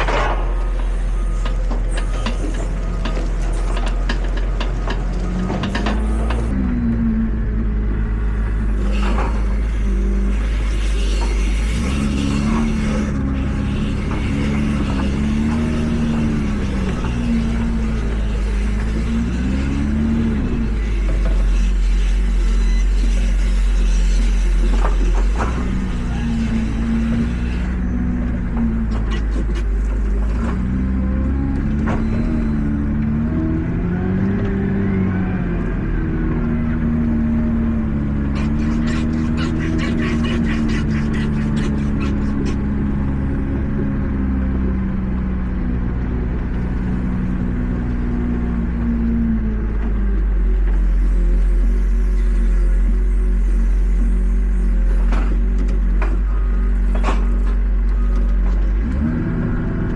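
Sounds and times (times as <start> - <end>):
tractor engine droning: 0.0 - 59.9.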